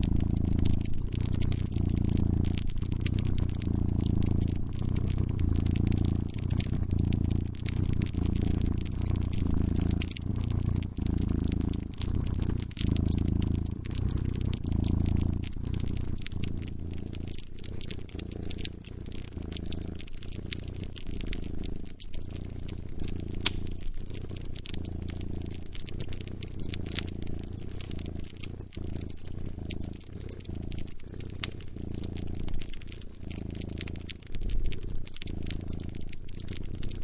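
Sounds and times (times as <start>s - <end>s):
cat purring: 0.0s - 37.0s
wood fire crackling and popping: 0.0s - 37.0s.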